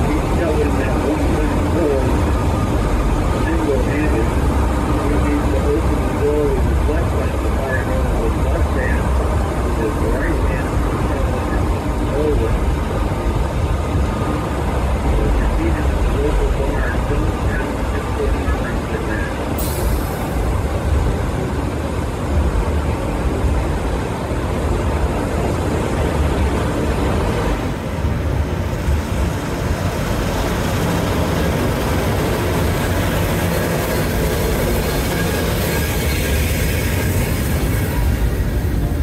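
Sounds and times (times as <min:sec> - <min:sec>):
train rumble and rattle: 0:00.0 - 0:39.0.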